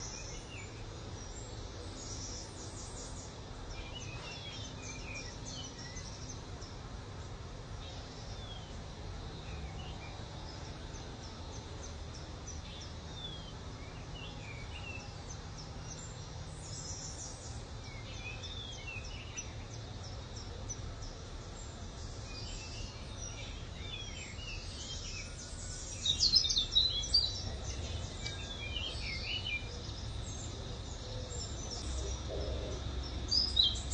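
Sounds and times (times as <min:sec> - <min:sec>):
small birds chirping: 0:00.0 - 0:33.9
steady low hum: 0:00.0 - 0:33.9.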